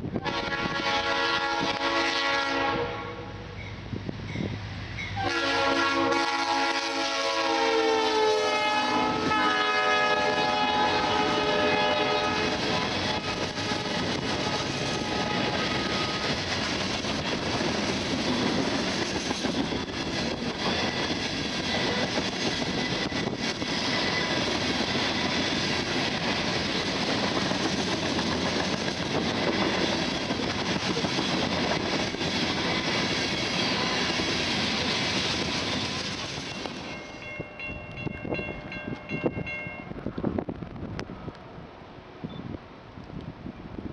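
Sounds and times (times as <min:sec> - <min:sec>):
freight train wheels rumbling on rail: 0:00.0 - 0:43.9.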